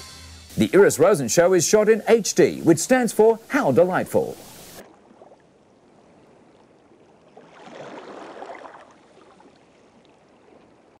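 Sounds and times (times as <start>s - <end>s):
faint water: 0.6s - 11.0s.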